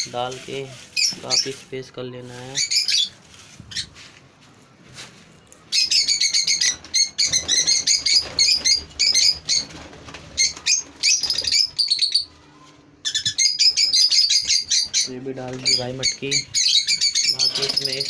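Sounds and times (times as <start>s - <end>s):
lovebirds chirping: 0.0s - 4.0s, 5.4s - 18.0s.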